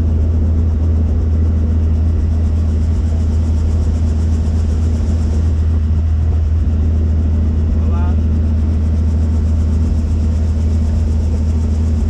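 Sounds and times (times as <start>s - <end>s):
helicopter engine and rotors: 0.0s - 12.0s.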